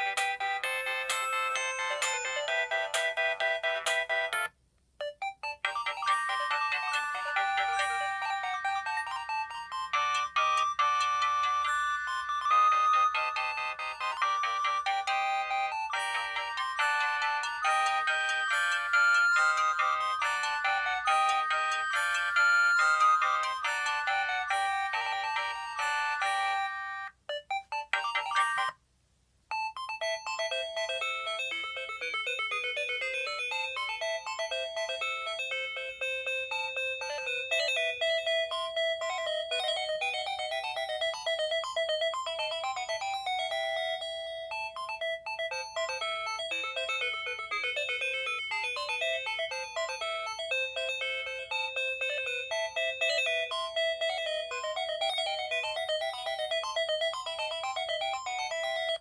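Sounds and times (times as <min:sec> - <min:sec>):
synthesized ringtone melody: 0:00.0 - 0:28.8, 0:29.5 - 0:59.0.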